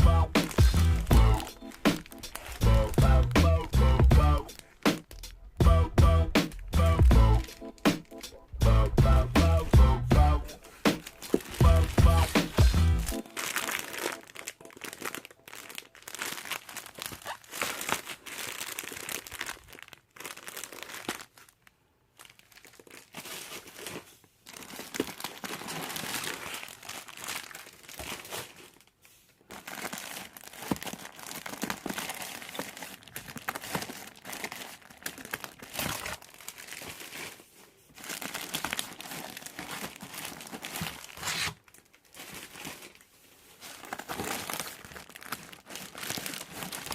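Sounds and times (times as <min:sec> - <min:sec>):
packaging crinkling and tearing: 0:00.0 - 0:03.4, 0:04.4 - 0:05.4, 0:07.4 - 0:08.2, 0:10.6 - 0:46.9.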